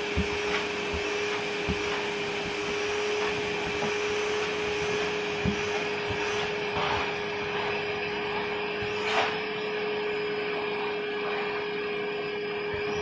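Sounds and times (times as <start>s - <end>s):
vacuum cleaner motor whining: 0.0s - 13.0s.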